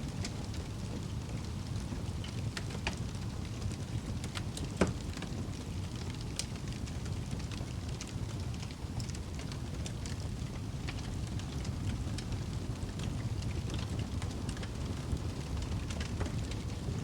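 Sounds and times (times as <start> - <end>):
low rumble of flames: 0.0 - 17.0
fire crackling and popping: 0.1 - 17.0.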